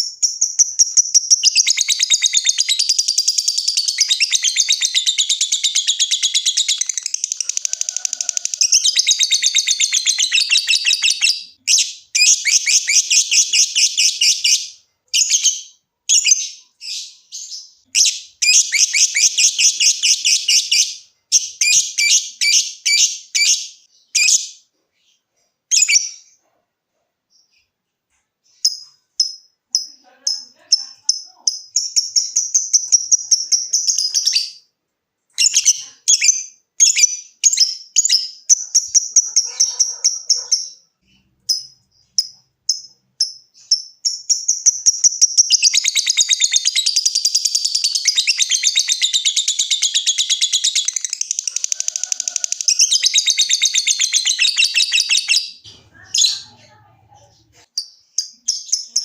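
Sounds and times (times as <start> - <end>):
lovebird chattering: 0.0 - 24.6, 28.5 - 34.6, 35.4 - 59.0.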